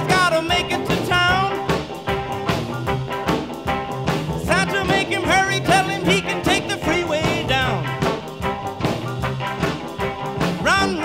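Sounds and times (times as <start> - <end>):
upbeat swing music: 0.0 - 11.0.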